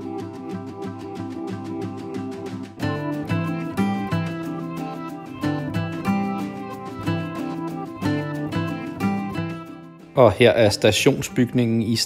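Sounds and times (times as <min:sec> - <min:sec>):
melody over bass notes: 0:00.1 - 0:10.0.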